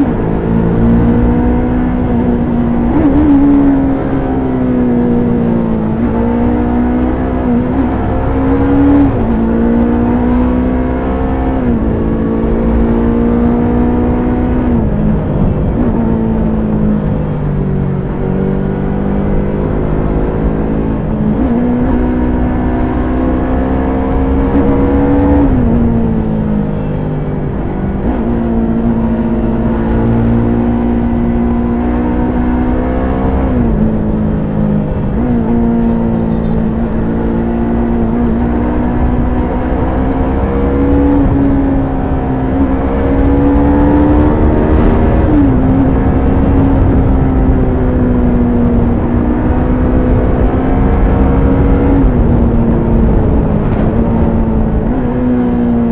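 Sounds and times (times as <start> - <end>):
motorcycle engine revving: 0.0 - 55.9
wind rush: 0.0 - 55.9.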